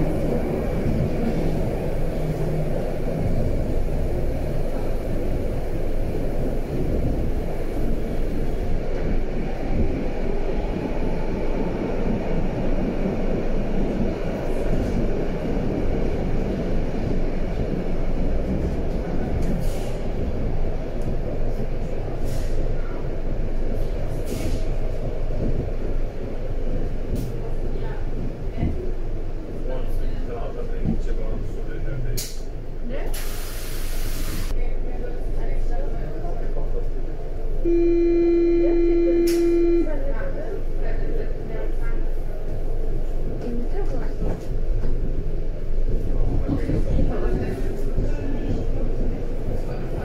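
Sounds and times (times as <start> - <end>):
train wheels rumbling: 0.0 - 37.6, 39.3 - 50.0.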